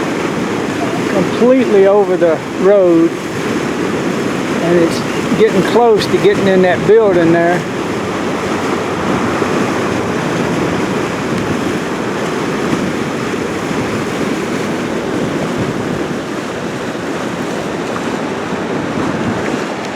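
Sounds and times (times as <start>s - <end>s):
floodwater rushing roar: 0.0s - 19.9s
wind on microphone: 0.0s - 19.9s.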